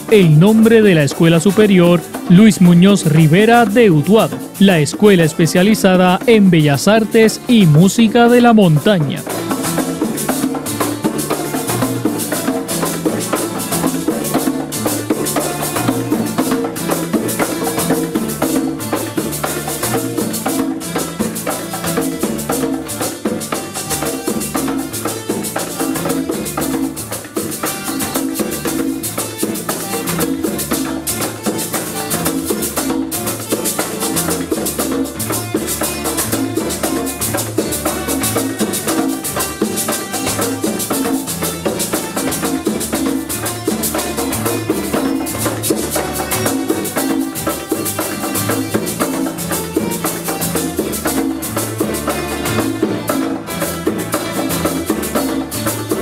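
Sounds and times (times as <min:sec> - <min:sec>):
congas: 0:00.0 - 0:56.0
plucked-string ensemble: 0:00.0 - 0:56.0.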